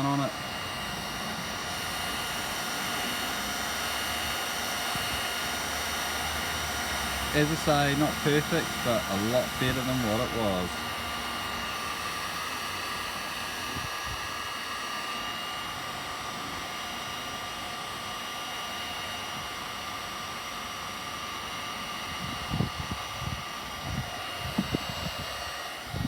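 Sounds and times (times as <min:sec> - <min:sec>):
heat gun blowing: 0:00.0 - 0:26.0.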